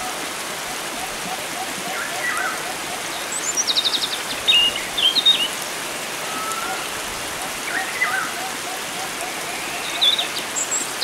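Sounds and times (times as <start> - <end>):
flowing water: 0.0 - 11.0
songbirds calling: 0.7 - 11.0.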